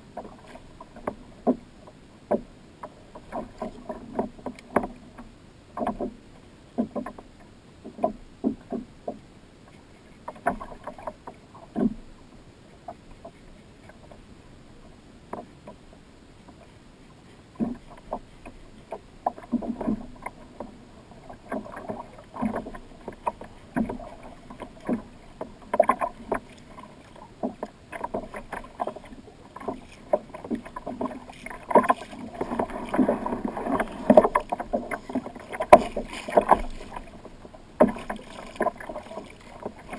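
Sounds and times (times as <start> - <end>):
waves slapping plastic kayak hull: 0.0 - 39.9.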